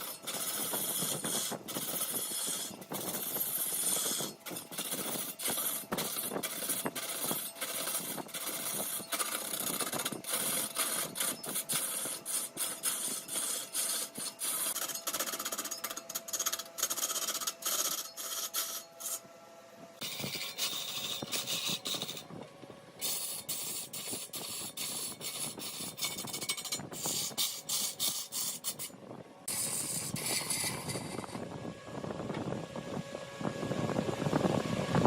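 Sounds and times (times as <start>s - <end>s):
lathe tool scraping wood: 0.0s - 19.3s, 20.0s - 22.3s, 23.0s - 31.4s
faint steady hum: 0.0s - 35.0s.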